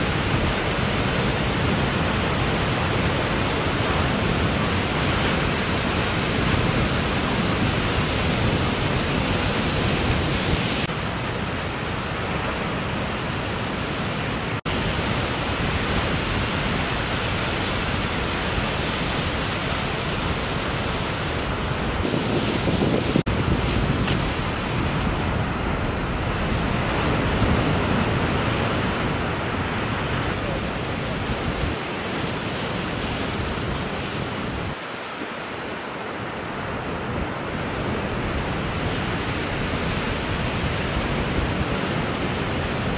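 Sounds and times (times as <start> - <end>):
wind buffeting microphone: 0.0 - 35.3
ocean surf breaking: 0.0 - 42.9.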